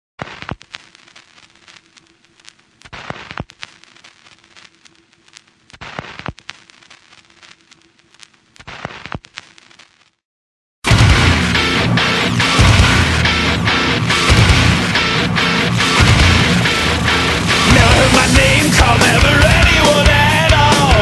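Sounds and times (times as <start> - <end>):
crackling clicks and pops: 0.2 - 10.2, 12.3 - 20.2.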